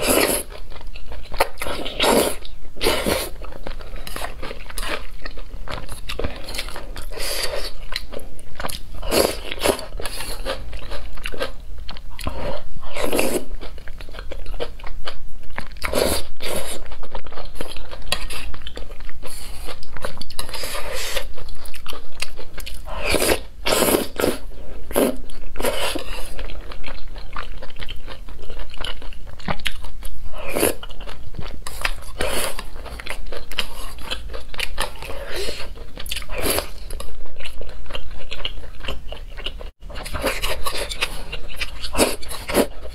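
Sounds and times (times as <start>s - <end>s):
close chewing and biting: 0.0s - 42.9s.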